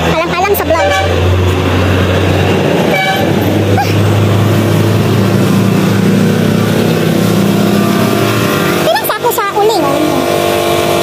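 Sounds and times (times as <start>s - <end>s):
higher engine note: 0.0s - 11.0s
traffic engine drone: 0.0s - 11.0s.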